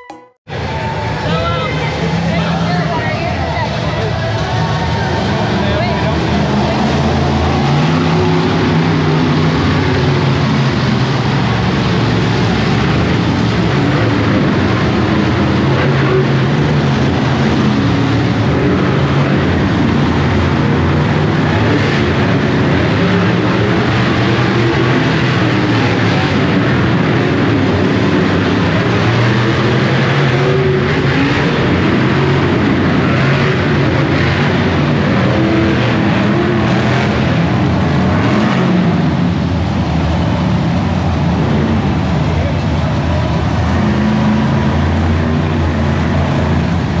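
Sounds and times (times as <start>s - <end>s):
truck engines revving: 0.5s - 47.0s.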